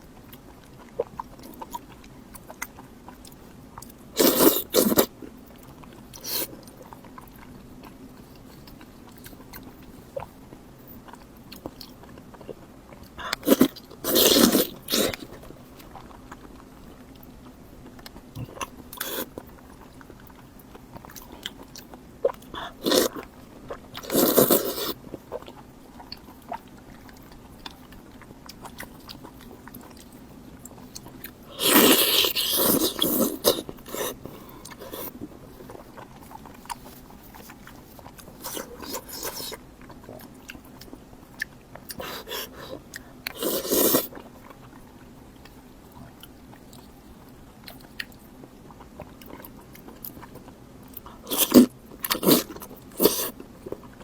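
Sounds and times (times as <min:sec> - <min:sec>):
quiet chewing: 0:00.0 - 0:54.0.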